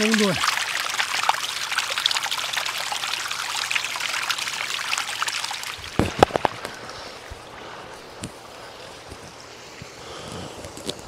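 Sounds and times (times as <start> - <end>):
water trickling down rock: 0.0 - 11.0.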